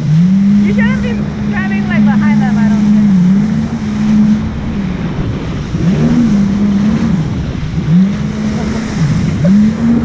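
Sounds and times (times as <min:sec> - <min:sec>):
jet ski engine running: 0:00.0 - 0:10.0
rush of wind and water: 0:00.0 - 0:10.0.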